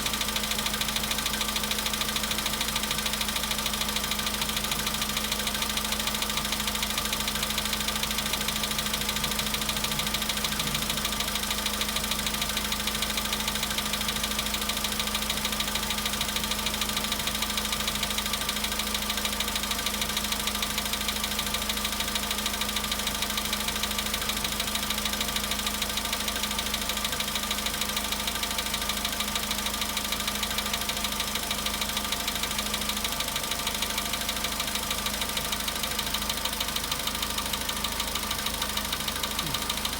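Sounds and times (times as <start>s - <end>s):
car engine idling: 0.0s - 39.9s
fast even engine knock: 0.1s - 39.9s.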